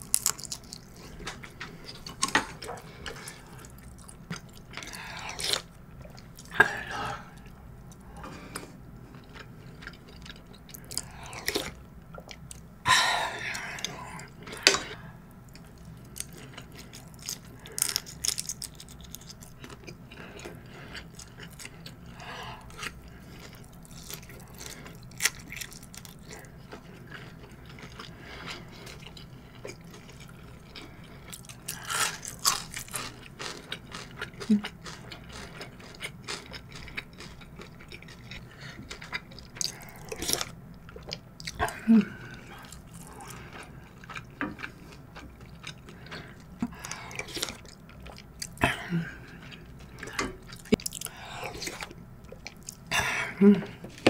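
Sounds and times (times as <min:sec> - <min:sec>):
person chewing wetly: 0:00.0 - 0:12.7, 0:13.5 - 0:53.0.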